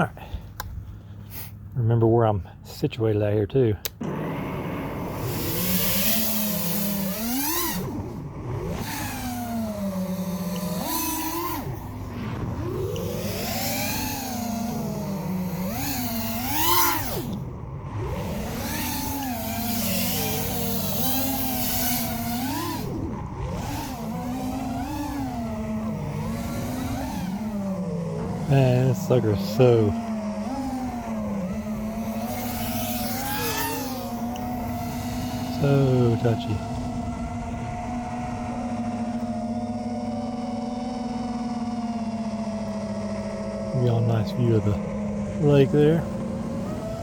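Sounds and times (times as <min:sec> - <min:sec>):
drone motors whining: 0:03.8 - 0:47.0.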